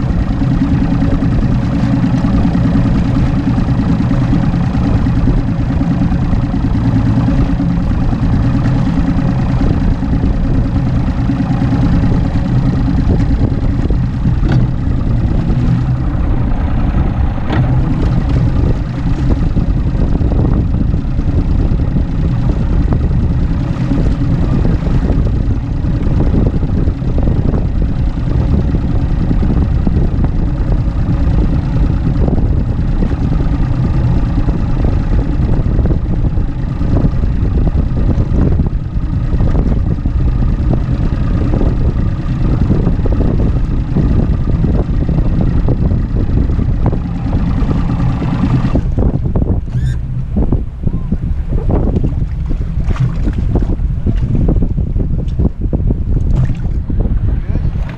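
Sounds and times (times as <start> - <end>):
outboard motor idling: 0.0 - 57.9.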